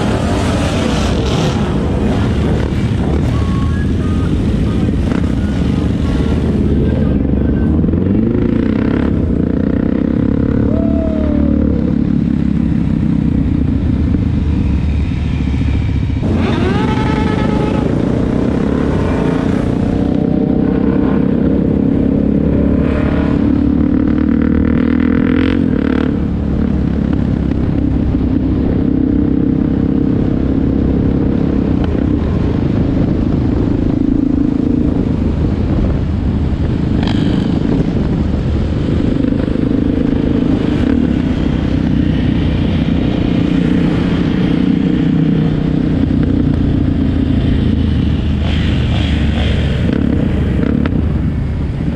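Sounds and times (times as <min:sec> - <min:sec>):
motorcycle engines rumbling: 0:00.0 - 0:51.9.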